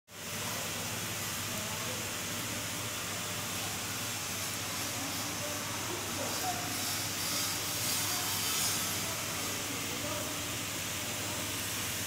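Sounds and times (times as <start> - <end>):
workshop background hiss: 0.1 - 12.0.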